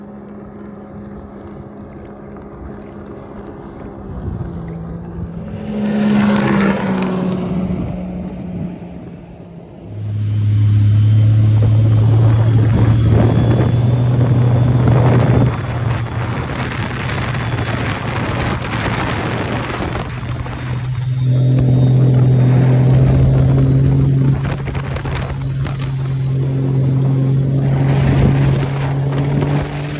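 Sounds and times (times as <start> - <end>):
jet ski engine revving: 0.0 - 29.9
supercharger whine: 0.0 - 29.9.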